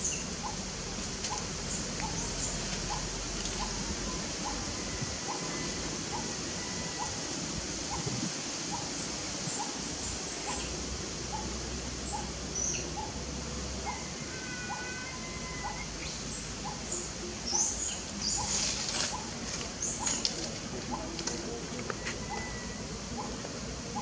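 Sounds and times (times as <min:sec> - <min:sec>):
birds chirping: 0:00.0 - 0:24.0
outdoor hiss: 0:00.0 - 0:24.0.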